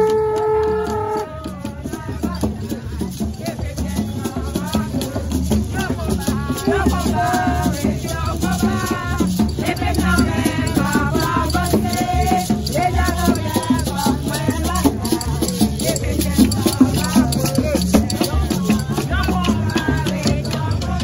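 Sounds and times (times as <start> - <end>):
maracas shaken: 0.0 - 21.0
voices singing a chant: 0.0 - 21.0.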